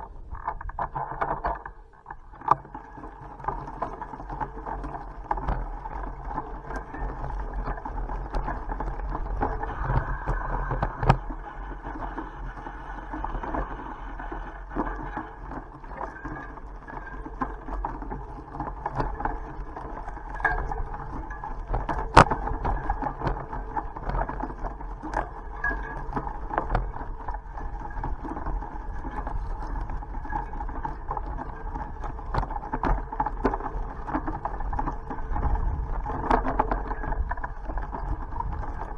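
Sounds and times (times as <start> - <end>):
bicycle rolling on road: 0.0 - 38.9.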